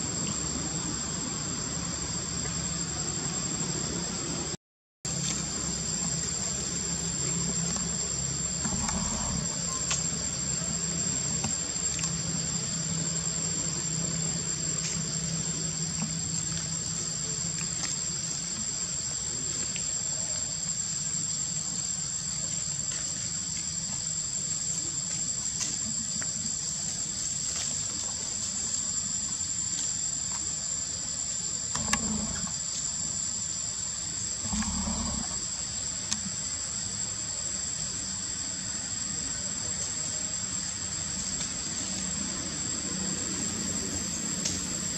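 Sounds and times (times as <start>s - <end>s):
insect chorus buzzing: 0.0s - 44.9s.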